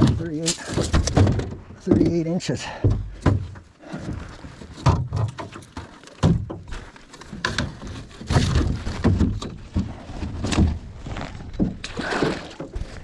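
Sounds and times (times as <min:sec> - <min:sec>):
knocks and thumps in a boat: 0:00.0 - 0:13.0.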